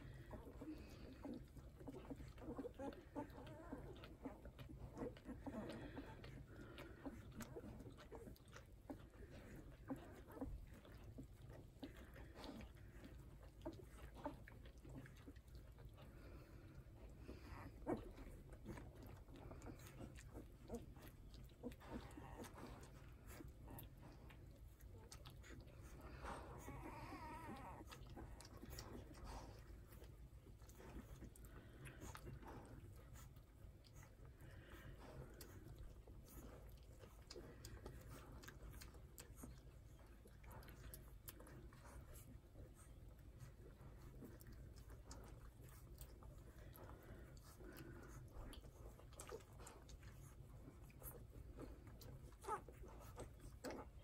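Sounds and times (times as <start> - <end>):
puppies squeaking and grunting: 0.0 - 54.0
wet suckling and smacking: 0.0 - 54.0.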